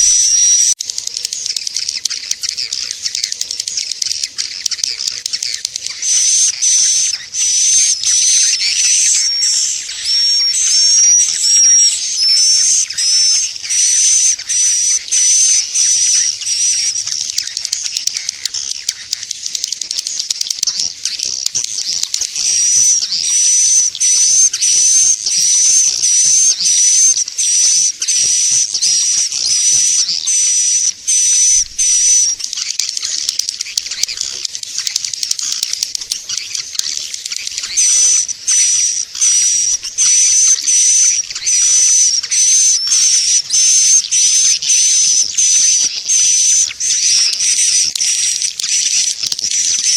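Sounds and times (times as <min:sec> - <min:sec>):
recorded swiftlet chirps: 0:00.0 - 0:49.9.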